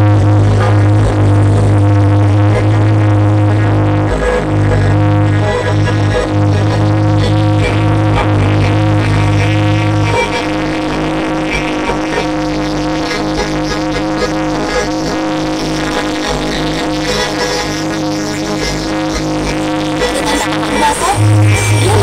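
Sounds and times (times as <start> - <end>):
heavy bass: 0.0 - 22.0
loud music through sound system: 0.0 - 22.0.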